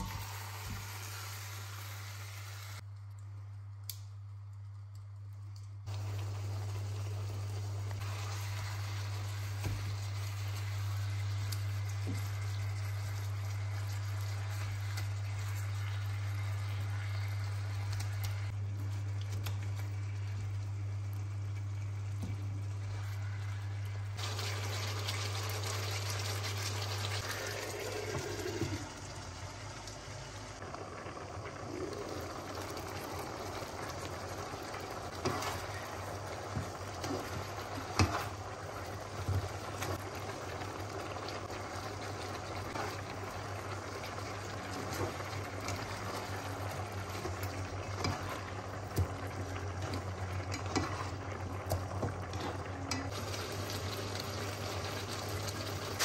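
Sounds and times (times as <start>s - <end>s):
chicken sizzling in a pan: 0.0s - 2.9s, 5.8s - 56.0s.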